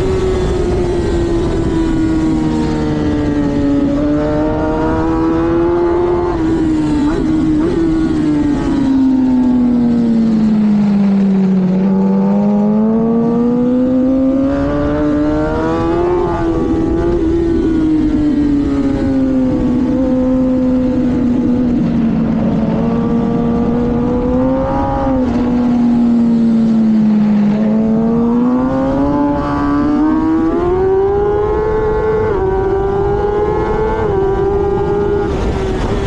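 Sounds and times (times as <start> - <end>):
motorcycle engine running hard: 0.0 - 36.0
wind rushing over microphone: 0.0 - 36.0.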